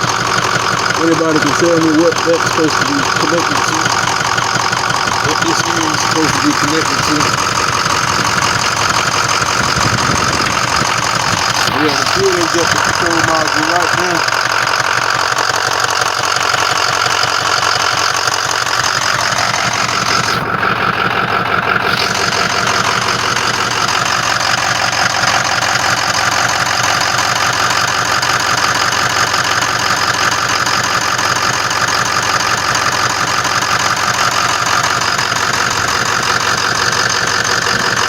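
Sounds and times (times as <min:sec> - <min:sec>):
diesel engine idling with clatter: 0:00.0 - 0:38.0.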